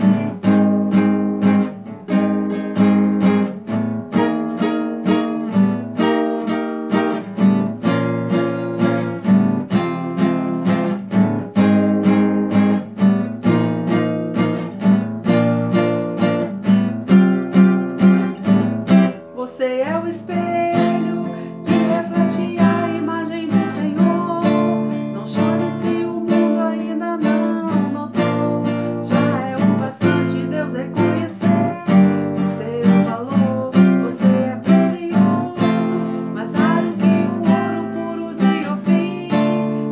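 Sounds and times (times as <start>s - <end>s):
classical guitar strumming: 0.0s - 39.9s.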